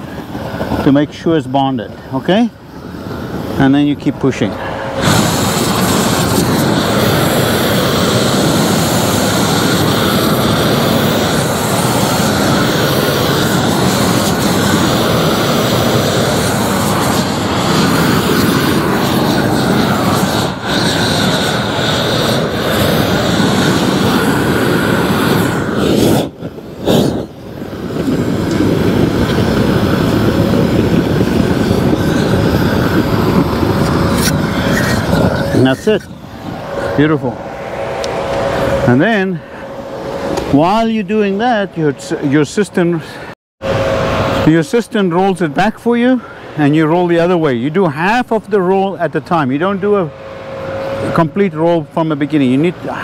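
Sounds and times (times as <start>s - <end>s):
roofing torch rushing flame: 0.0s - 53.0s.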